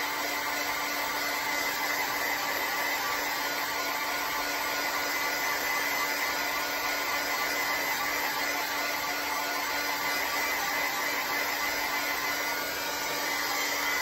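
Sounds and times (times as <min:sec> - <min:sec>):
heat gun blowing hot air: 0:00.0 - 0:14.0.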